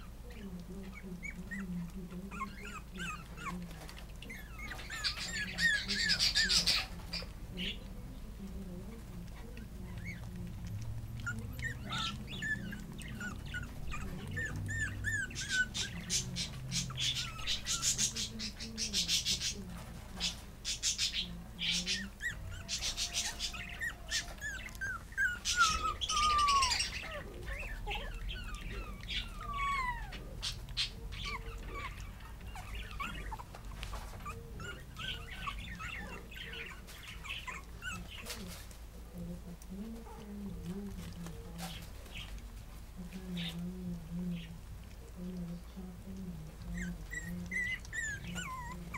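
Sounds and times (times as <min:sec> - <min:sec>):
puppy whining: 0:00.0 - 0:07.9, 0:09.0 - 0:19.5, 0:20.2 - 0:42.8, 0:43.4 - 0:48.9
puppies squeaking and whimpering: 0:00.0 - 0:48.9.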